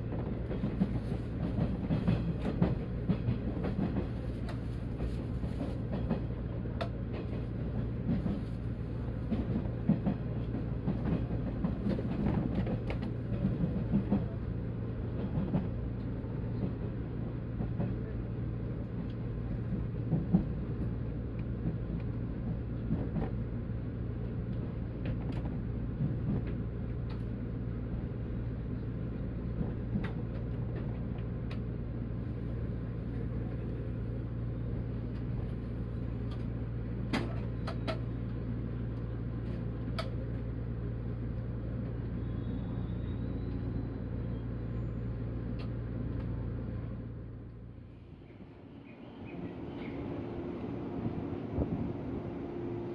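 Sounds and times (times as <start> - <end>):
electric train rumble and hum: 0.0 - 52.9.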